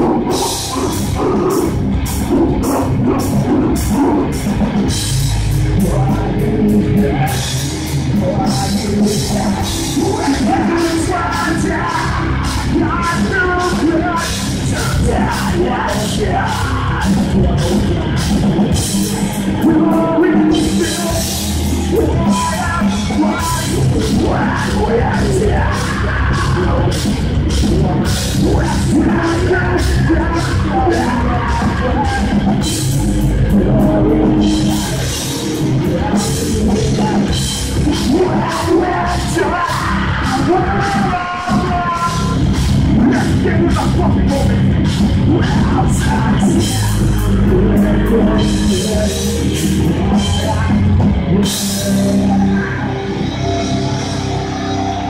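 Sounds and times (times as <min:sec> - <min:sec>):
harsh shouted vocals: 0:00.0 - 0:04.9, 0:05.7 - 0:55.0
bass guitar: 0:00.0 - 0:55.0
distorted electric guitars: 0:00.0 - 0:55.0.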